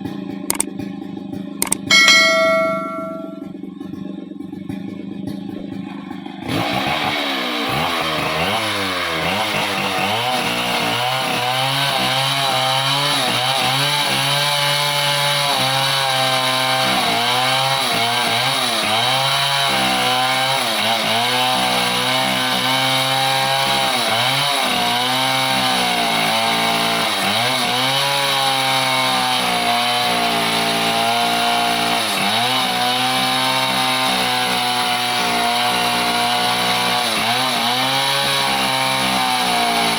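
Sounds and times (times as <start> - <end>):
chainsaw cutting wood: 0.0 - 1.0, 1.6 - 3.2, 5.5 - 39.9.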